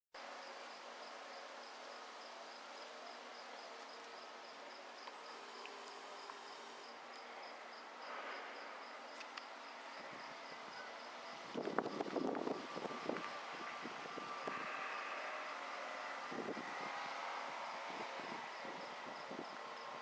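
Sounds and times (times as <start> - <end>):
faint insect chirping: 0.2 - 20.0
steady background hiss: 0.2 - 20.0.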